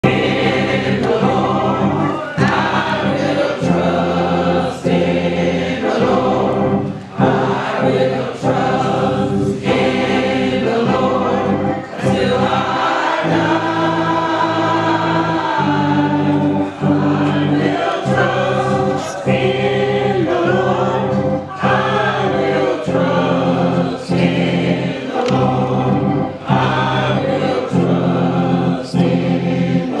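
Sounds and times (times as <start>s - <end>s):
bass line: 0.0s - 30.0s
gospel choir singing: 0.0s - 30.0s.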